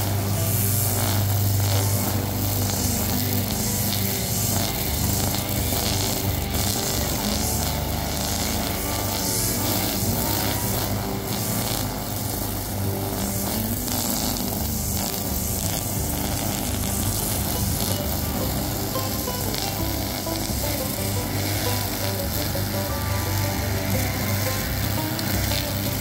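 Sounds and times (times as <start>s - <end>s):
brush cutter engine running: 0.0s - 26.0s
string line whirring through grass: 0.0s - 26.0s.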